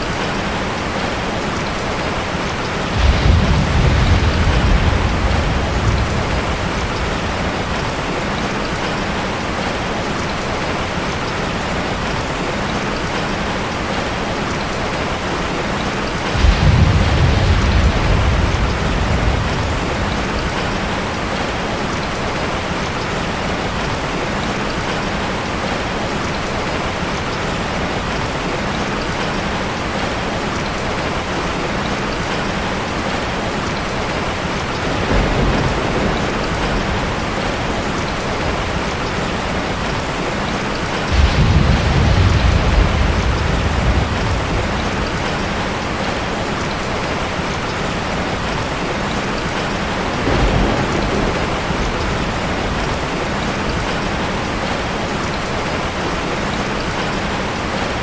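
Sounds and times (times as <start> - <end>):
heavy rain: 0.0 - 58.0
thunder rumbles: 0.1 - 25.8, 29.7 - 58.0.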